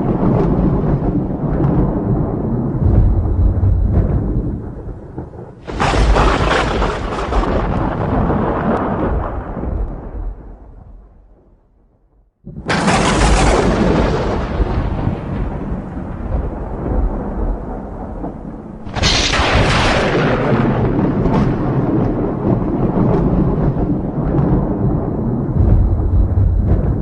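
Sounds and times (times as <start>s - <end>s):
sharp thunder crack: 0.0s - 11.5s, 12.4s - 27.0s
thunder rumbling: 0.0s - 27.0s.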